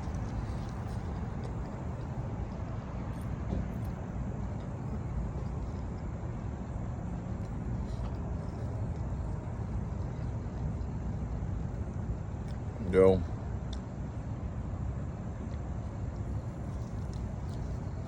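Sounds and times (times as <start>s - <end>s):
low rumble of background noise: 0.0s - 18.0s.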